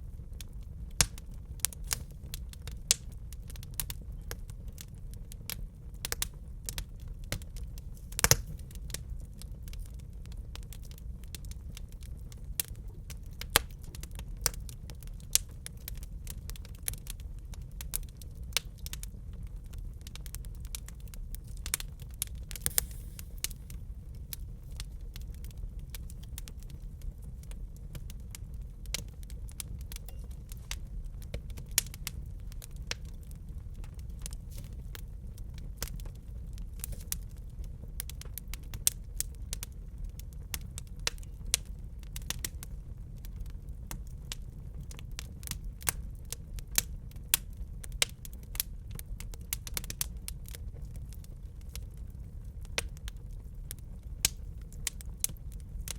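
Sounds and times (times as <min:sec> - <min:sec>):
fire crackling and popping: 0:00.0 - 0:55.9
low fire rumble: 0:00.0 - 0:55.9.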